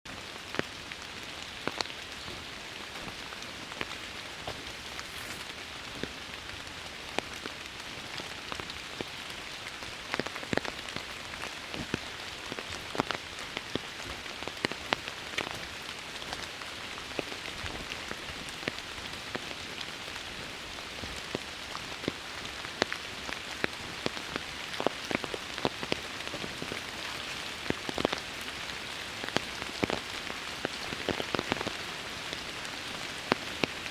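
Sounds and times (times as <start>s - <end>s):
heavy raindrops landing close by: 0.1s - 33.9s
steady rain hiss: 0.1s - 33.9s.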